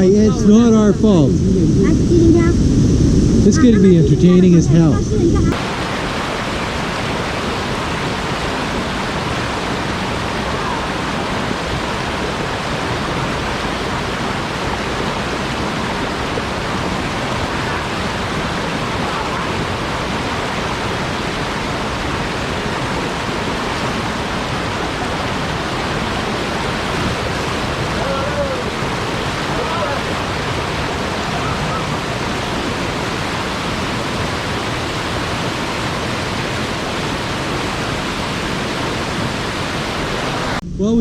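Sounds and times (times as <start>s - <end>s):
rushing river water: 5.4s - 40.6s.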